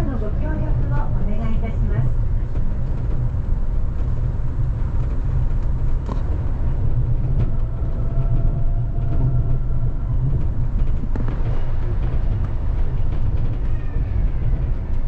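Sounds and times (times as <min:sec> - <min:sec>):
train rumble inside car: 0:00.0 - 0:15.0.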